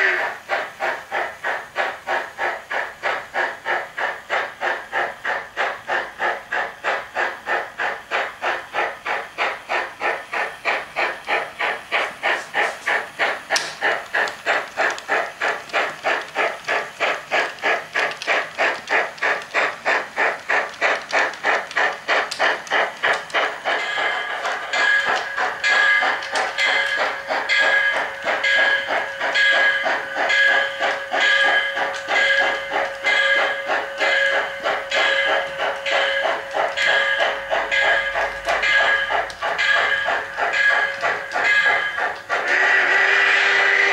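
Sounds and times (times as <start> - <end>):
steam locomotive exhaust chuffs: 0.0 - 43.9.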